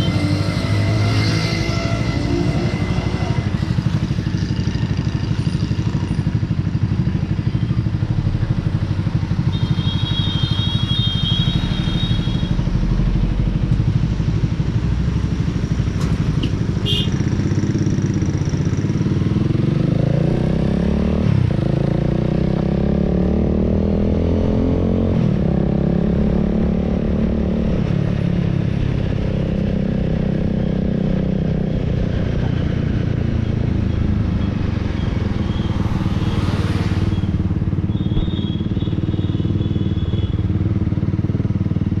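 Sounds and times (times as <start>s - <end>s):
motorcycle engine running: 1.7s - 24.8s, 28.4s - 42.0s.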